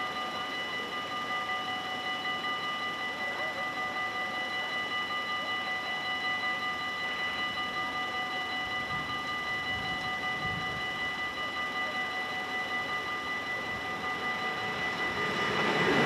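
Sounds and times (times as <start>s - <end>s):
level crossing warning bells ringing: 0.0s - 16.0s.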